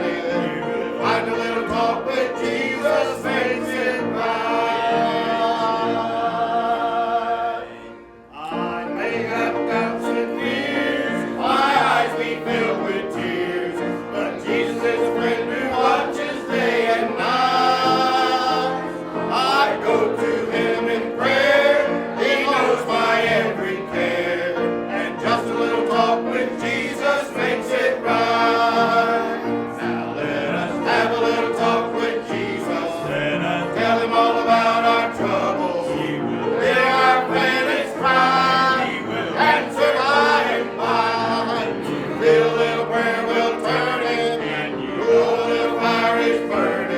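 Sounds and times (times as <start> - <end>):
congregation singing a hymn: 0.0 - 46.9.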